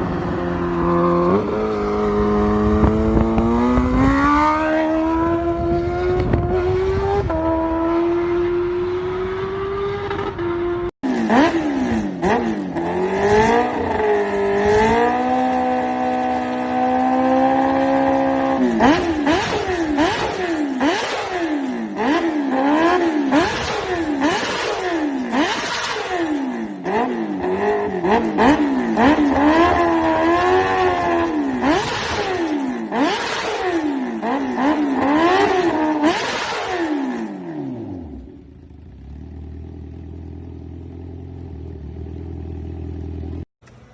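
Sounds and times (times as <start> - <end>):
motorcycle accelerating hard: 0.0 - 43.9.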